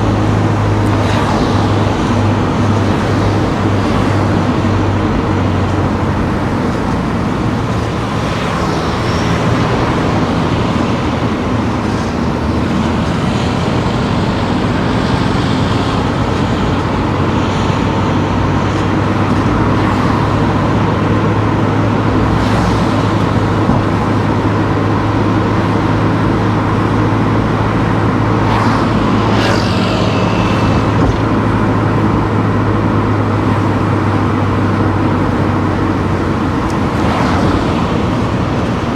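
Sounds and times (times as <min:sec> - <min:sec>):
car engine hum: 0:00.0 - 0:38.9
tyre and road noise: 0:00.0 - 0:38.9.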